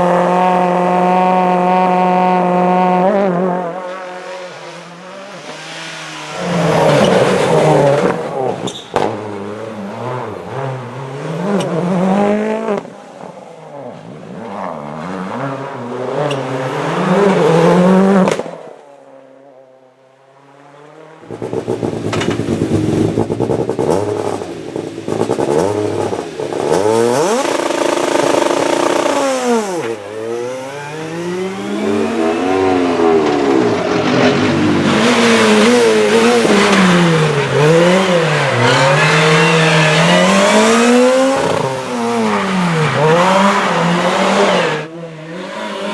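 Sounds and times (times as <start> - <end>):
rally car engines revving: 0.0 - 19.3, 20.5 - 45.9.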